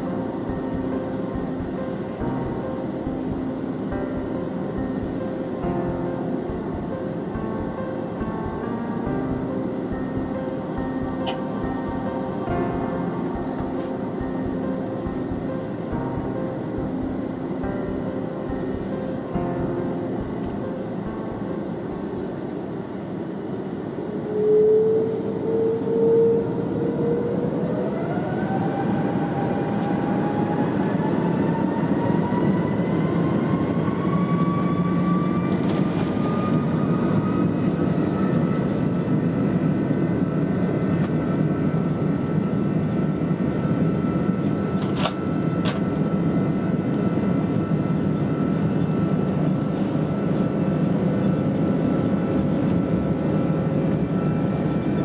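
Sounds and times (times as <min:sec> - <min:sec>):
jet engine and airframe rush: 0:00.0 - 0:55.0.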